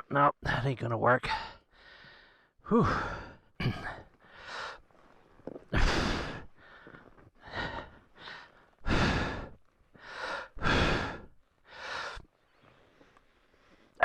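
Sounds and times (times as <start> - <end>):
man breathing hard: 1.3 - 14.0.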